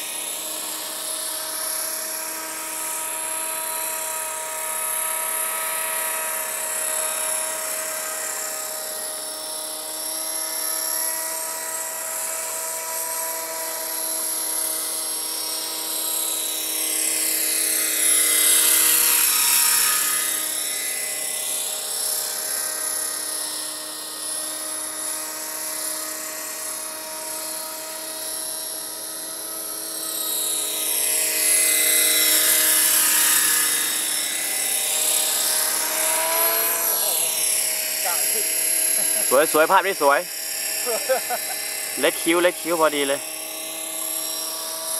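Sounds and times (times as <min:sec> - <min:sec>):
model helicopter rotor whine: 0:00.0 - 0:44.9.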